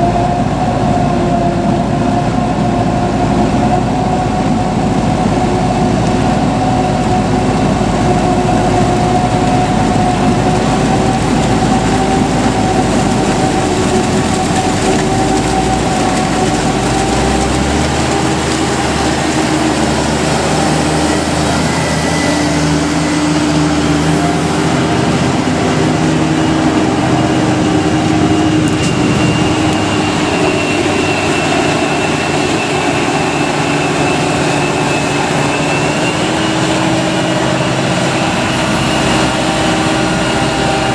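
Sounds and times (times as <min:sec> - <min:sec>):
tractor engine running: 0:00.0 - 0:40.9
whining tones: 0:00.0 - 0:40.9.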